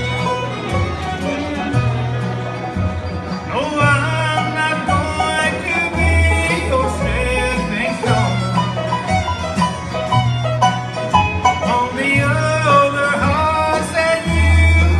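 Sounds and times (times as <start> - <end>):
banjo: 0.0 - 14.9
bluegrass band playing: 0.0 - 14.9
fiddle: 0.0 - 14.9
low bass notes: 0.0 - 14.9.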